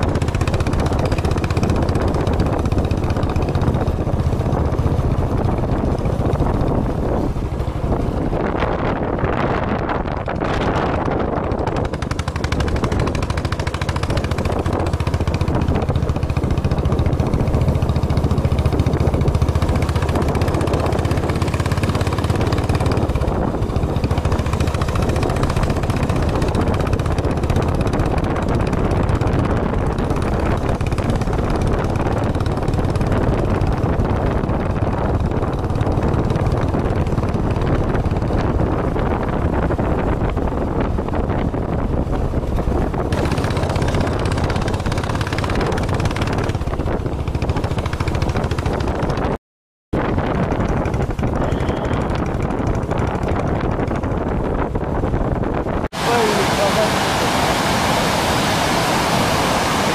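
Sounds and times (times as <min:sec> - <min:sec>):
road noise: 0:00.0 - 0:49.3, 0:50.0 - 0:59.9
motorcycle engine running: 0:00.0 - 0:49.4, 0:50.0 - 0:59.9
wind: 0:00.0 - 0:59.9.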